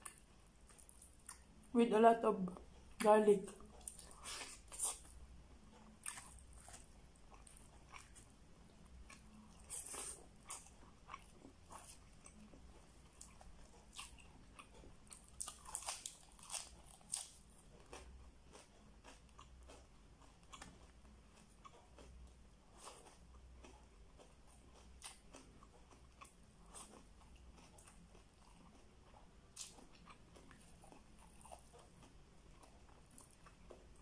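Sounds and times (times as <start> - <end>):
person chewing with lip smacks: 2.8 - 5.2, 5.8 - 34.0.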